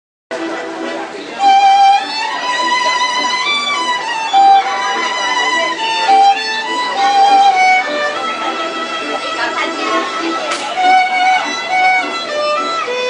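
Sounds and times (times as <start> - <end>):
bowed string melody: 0.4 - 13.0.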